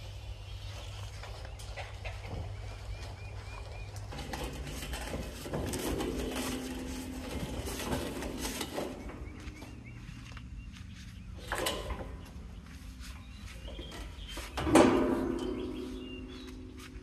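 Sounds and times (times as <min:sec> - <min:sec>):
bird chirping: 0:00.0 - 0:05.4, 0:06.3 - 0:17.0.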